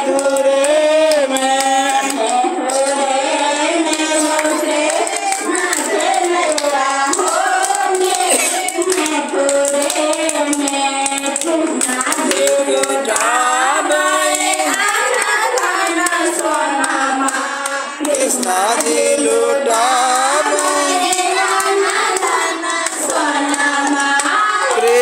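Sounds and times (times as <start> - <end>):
hands clapping along: 0.0 - 25.0
voices singing along: 0.0 - 25.0
woman singing into microphone: 0.0 - 25.0.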